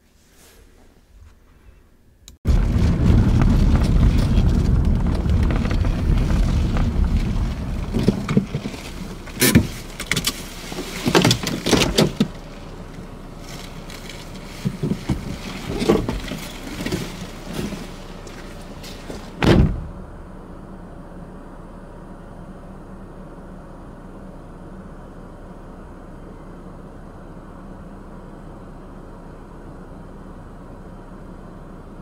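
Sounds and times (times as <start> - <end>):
loud low rumbling: 2.4 - 10.6, 12.2 - 30.8.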